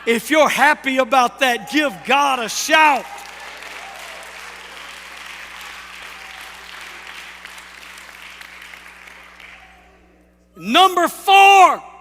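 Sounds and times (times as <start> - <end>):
congregation clapping and cheering: 0.0 - 10.2.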